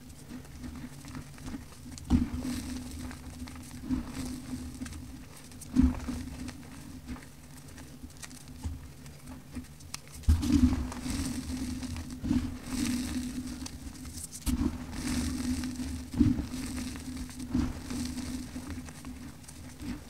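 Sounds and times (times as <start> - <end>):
falling crumbs pattering: 0.0 - 20.0
fingers crumbling dry powder: 0.0 - 20.0.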